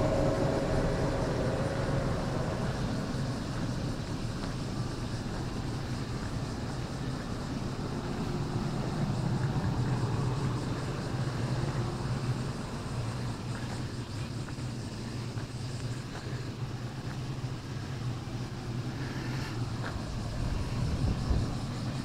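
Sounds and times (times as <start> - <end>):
electric train humming and whirring: 0.0 - 22.0.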